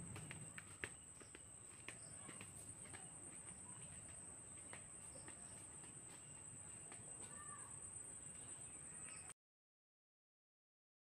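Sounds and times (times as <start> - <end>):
bird chirp: 0.0 - 9.3.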